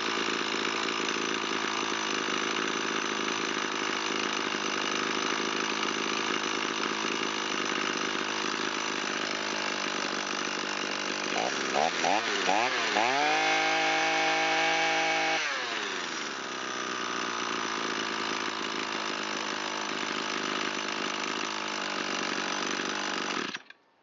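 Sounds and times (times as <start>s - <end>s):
string trimmer engine revving: 0.0s - 23.7s.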